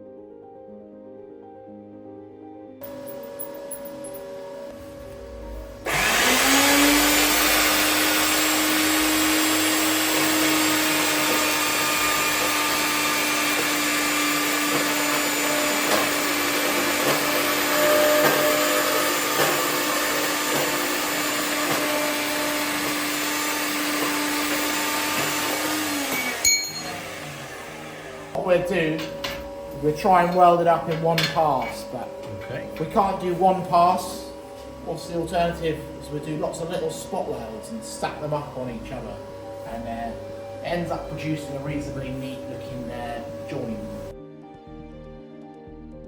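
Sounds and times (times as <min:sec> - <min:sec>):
electric motor machine whining: 0:02.9 - 0:44.2.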